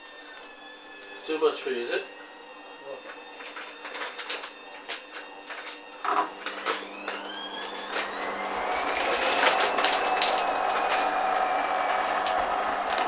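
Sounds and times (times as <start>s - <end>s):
washing machine motor whining: 0.0s - 13.0s.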